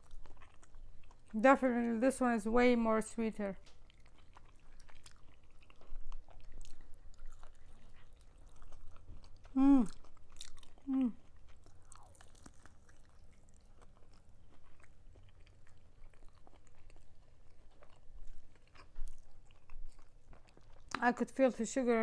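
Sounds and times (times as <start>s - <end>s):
chewing and crunching: 0.0s - 2.3s, 3.0s - 22.0s.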